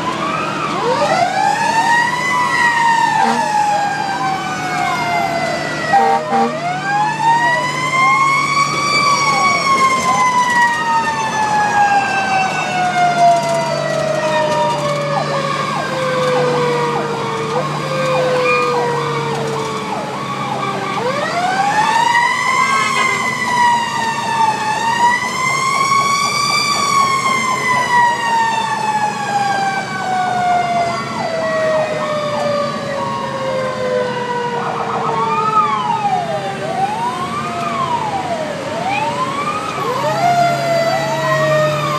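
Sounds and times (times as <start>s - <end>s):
fire truck siren wailing: 0.0s - 41.9s
truck engine hum: 0.0s - 41.9s.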